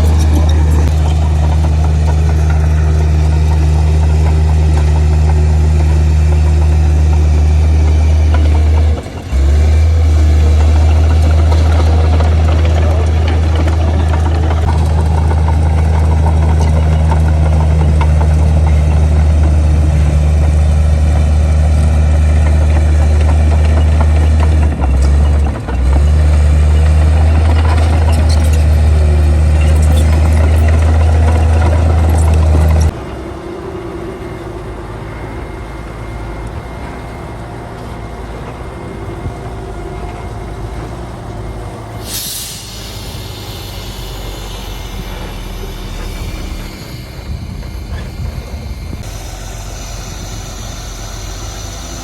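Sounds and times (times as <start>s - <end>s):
heavy diesel engine droning: 0.0s - 52.0s
rough mechanical rumble: 0.0s - 52.0s.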